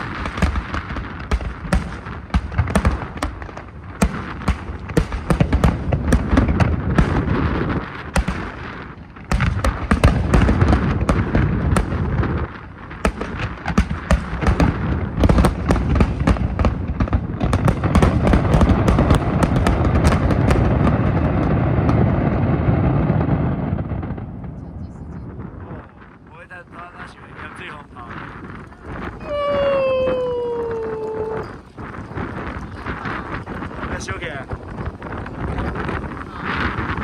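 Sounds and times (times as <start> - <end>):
fireworks booming: 0.0 - 37.0
fireworks crackling and popping: 0.0 - 37.0.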